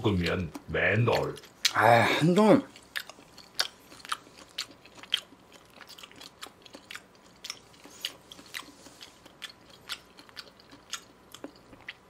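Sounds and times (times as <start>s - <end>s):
person chewing wet mouth clicks: 0.2s - 1.8s, 2.7s - 12.0s.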